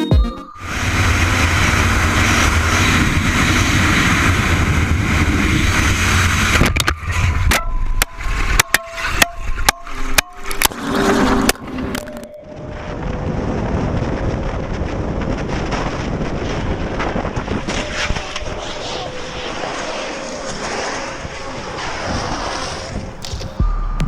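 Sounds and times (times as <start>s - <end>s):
wind noise: 0.6s - 24.0s.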